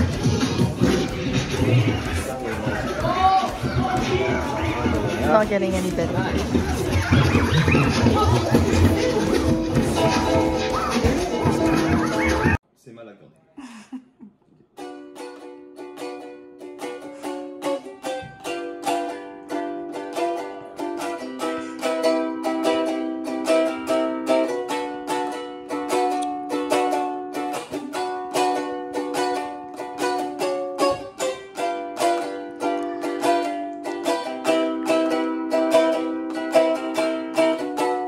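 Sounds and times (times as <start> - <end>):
ukulele strumming: 0.0 - 12.6, 14.7 - 38.0.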